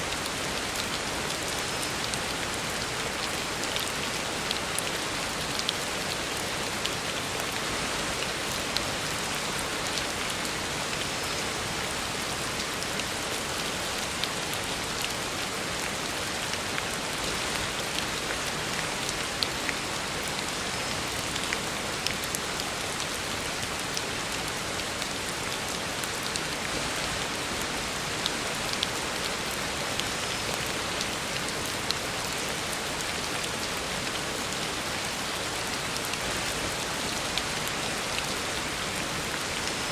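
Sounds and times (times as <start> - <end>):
heavy rain on road: 0.1 - 39.9.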